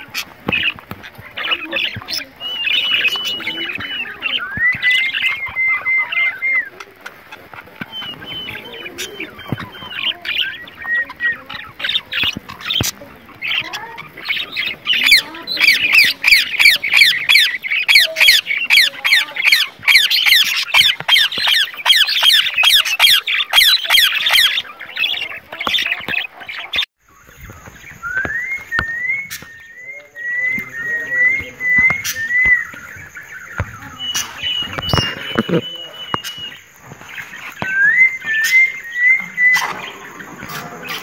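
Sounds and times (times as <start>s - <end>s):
caged birds chirping and squawking: 0.0s - 41.0s.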